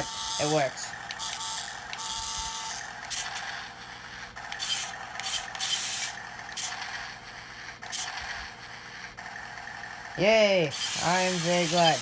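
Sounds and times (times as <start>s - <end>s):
toy tank engine sound effect: 0.0s - 12.0s.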